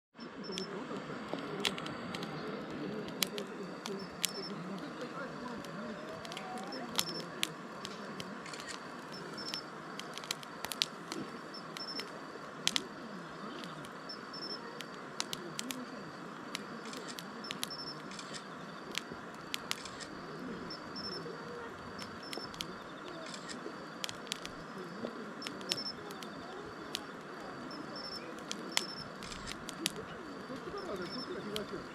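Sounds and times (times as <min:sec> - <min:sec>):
wood fire crackling and popping: 0:00.3 - 0:31.9.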